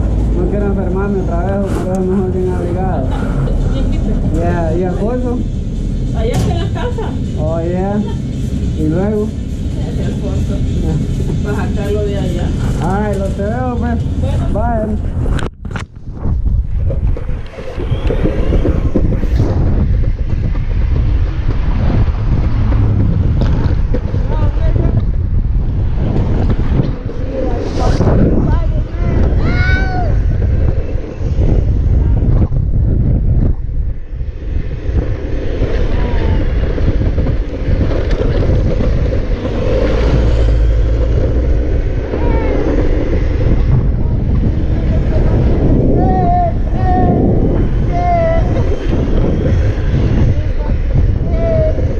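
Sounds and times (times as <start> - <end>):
low rumble over pavement: 0.0 - 51.9
wind buffeting microphone: 0.0 - 51.9.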